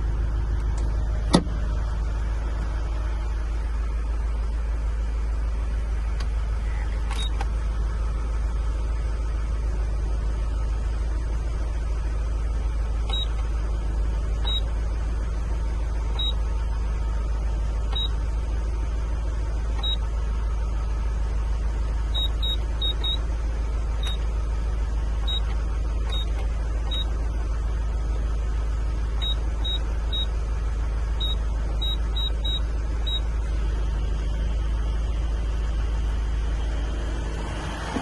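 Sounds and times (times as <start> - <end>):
diesel van engine running: 0.0 - 38.0.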